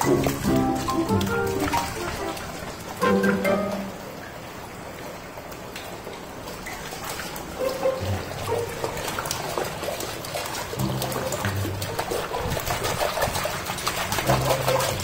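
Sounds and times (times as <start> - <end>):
hose water on concrete: 0.0 - 3.2, 5.7 - 15.0.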